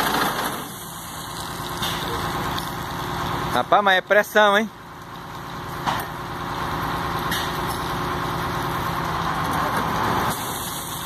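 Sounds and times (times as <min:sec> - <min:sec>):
water pump drone with hiss: 0:00.0 - 0:11.0.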